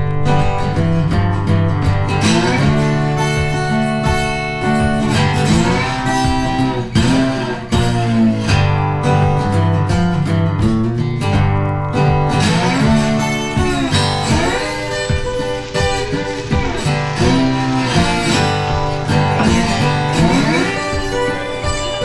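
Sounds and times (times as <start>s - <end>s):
guitar music: 0.0s - 22.0s.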